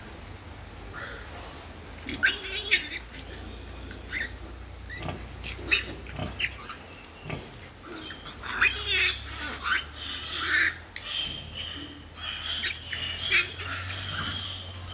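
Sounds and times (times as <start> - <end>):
steady low hum: 0.0 - 14.9
piglets squealing: 2.1 - 14.9.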